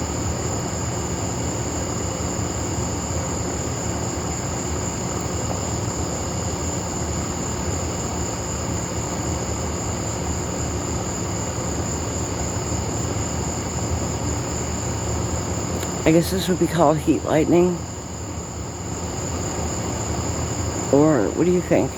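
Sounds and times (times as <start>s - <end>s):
insects buzzing: 0.0s - 21.9s.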